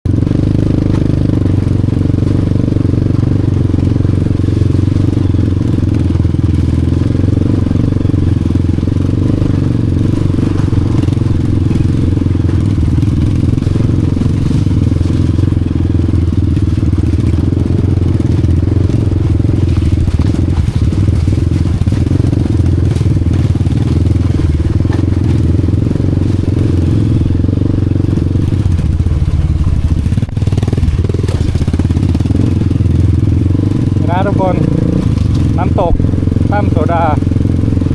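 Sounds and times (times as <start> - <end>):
motorcycle engine running steadily: 0.0 - 37.9.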